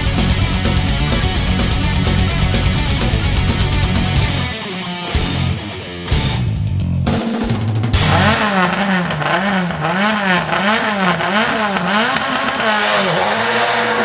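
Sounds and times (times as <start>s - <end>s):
race car engine revving: 0.0s - 4.6s, 7.1s - 14.0s.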